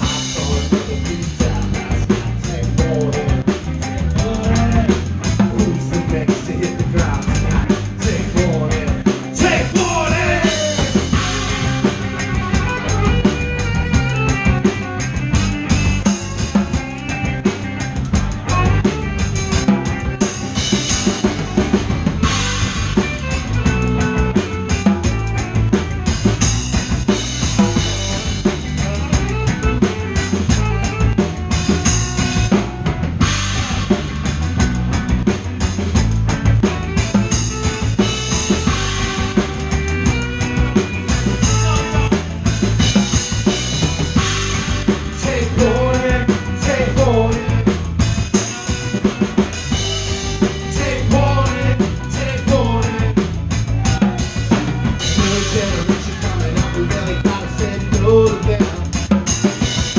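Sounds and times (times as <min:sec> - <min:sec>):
drum kit fast beat: 0:00.0 - 0:59.9
ska-punk band playing: 0:00.0 - 0:59.9.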